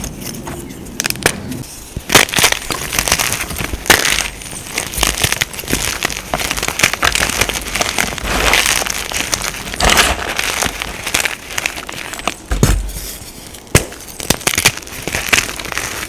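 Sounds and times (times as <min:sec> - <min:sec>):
powder blocks crunching: 0:01.0 - 0:16.0.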